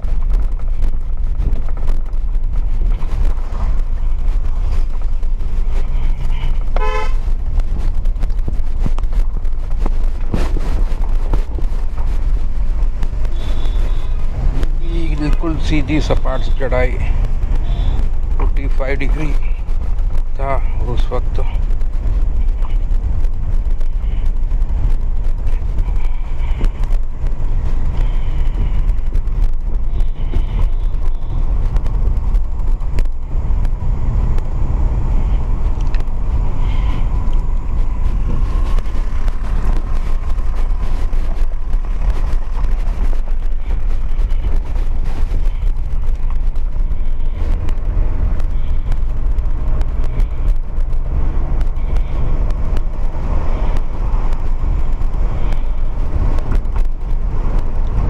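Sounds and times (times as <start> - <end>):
car driving heard from inside: 0.0 - 58.0.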